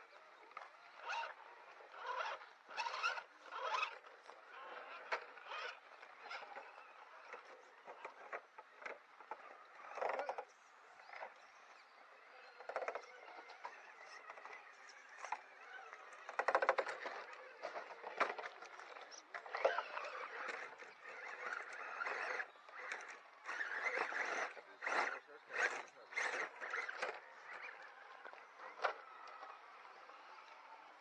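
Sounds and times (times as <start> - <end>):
tyres and chassis scraping rock: 0.1 - 31.0.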